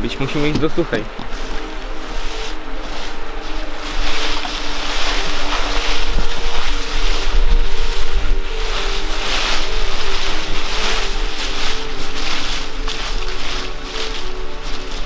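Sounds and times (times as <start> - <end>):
wind blowing over microphone: 0.0 - 14.8.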